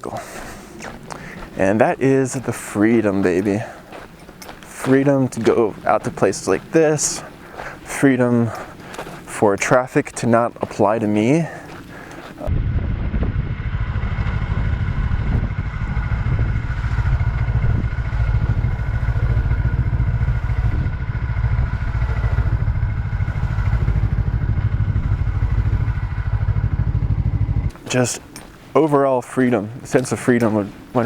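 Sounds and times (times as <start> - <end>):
motorcycle engine running: 0.4 - 28.4.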